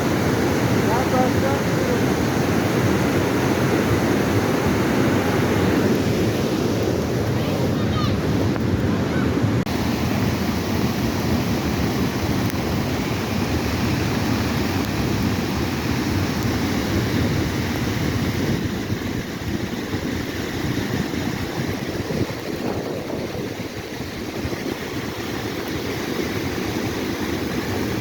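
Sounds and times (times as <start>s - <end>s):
floodwater rushing: 0.0s - 28.0s
wind noise on microphone: 0.0s - 28.0s.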